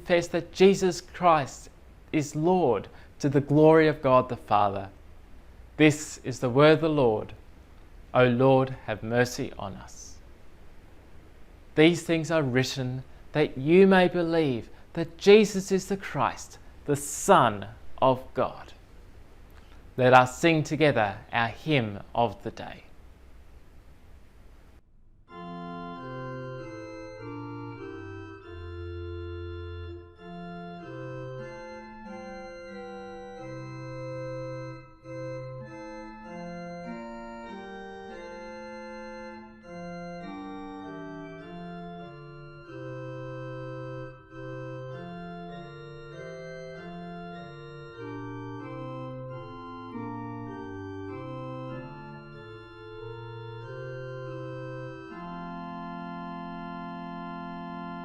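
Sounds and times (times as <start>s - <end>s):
organ playing hymn chords: 0.0s - 5.1s, 5.8s - 10.2s, 11.7s - 18.8s, 19.6s - 22.8s, 25.3s - 58.0s.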